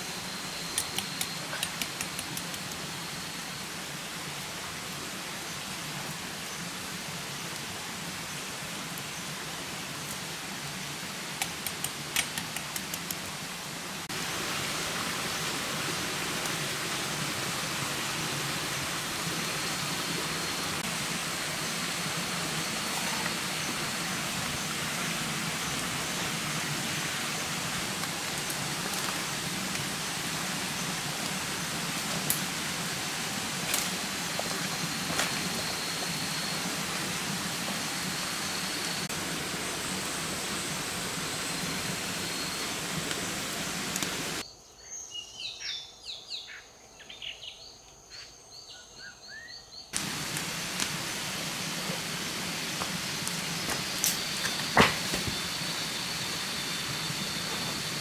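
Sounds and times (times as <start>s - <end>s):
fire crackles: 0.0s - 44.4s, 50.0s - 58.0s
wood fire hissing: 0.0s - 44.4s, 50.0s - 58.0s.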